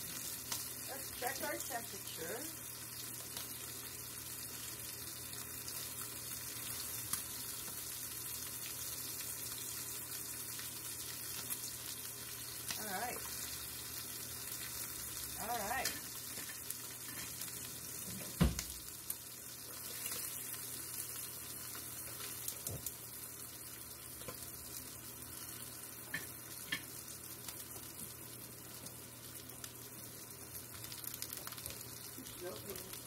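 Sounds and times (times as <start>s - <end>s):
steak sizzling in a frying pan: 0.0s - 33.0s.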